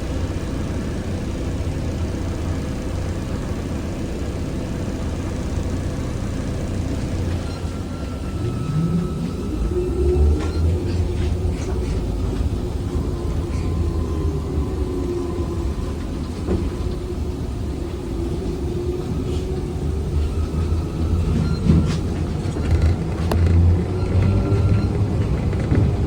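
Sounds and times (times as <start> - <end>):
trolleybus running gear rumble: 0.0 - 26.0.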